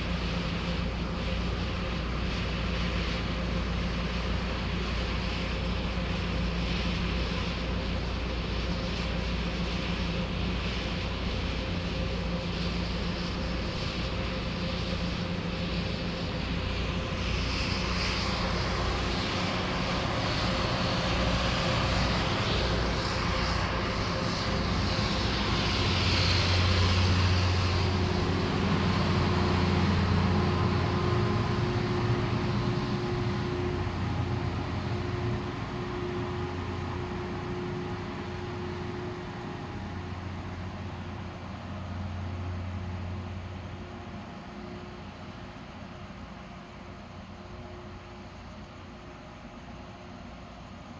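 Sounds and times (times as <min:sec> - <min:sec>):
train engine rumble: 0:00.0 - 0:50.9.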